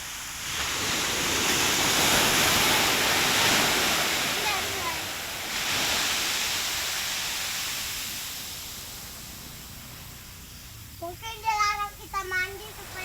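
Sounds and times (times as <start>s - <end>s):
wave breaking on beach: 0.0s - 10.0s, 11.2s - 13.0s.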